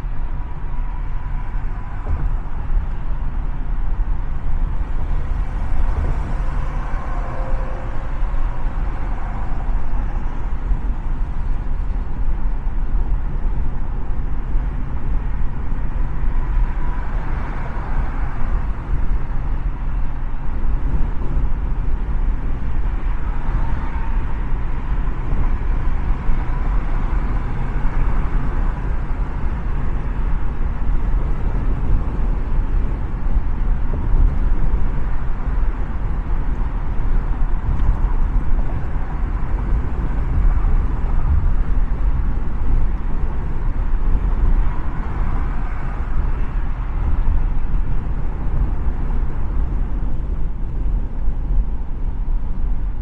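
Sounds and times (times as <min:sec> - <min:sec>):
car driving at speed: 0:00.0 - 0:53.0.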